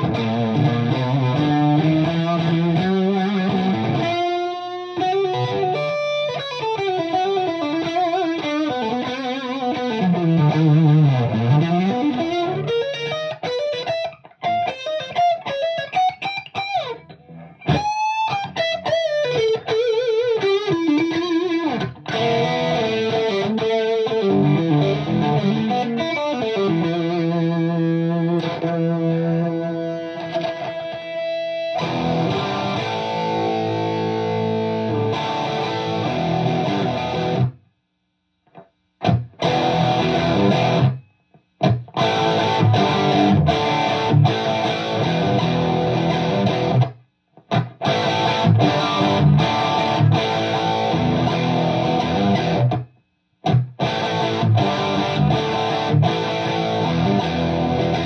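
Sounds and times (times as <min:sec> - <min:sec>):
overdriven electric guitar: 0:00.0 - 0:37.6, 0:38.5 - 0:58.0.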